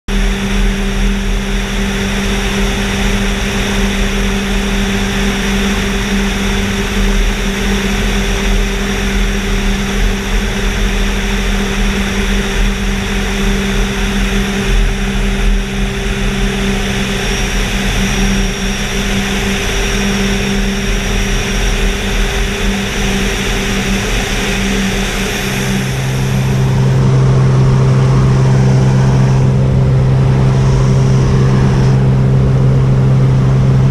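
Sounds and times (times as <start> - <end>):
heavy wind rush: 0.1 - 33.9
plane engine and propeller droning: 0.1 - 33.9.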